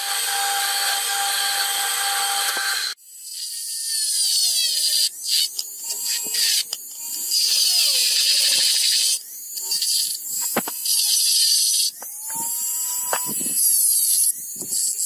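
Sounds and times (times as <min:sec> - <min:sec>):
rotary tool grinding steel: 0:00.0 - 0:15.0.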